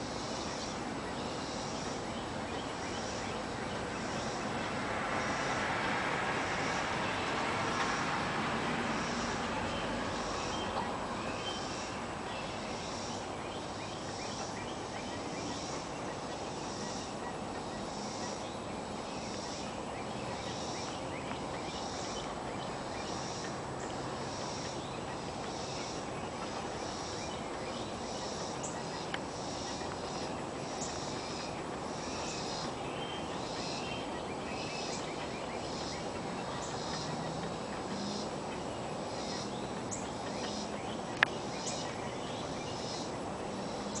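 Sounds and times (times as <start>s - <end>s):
insect chirping: 0.0s - 44.0s
outdoor background hiss: 0.0s - 44.0s.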